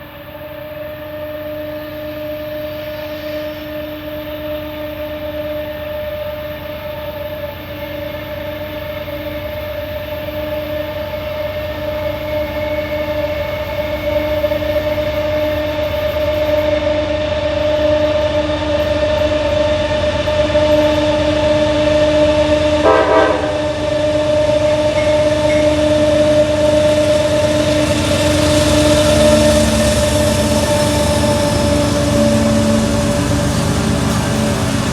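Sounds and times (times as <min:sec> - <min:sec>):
diesel locomotives whining: 0:00.0 - 0:34.9.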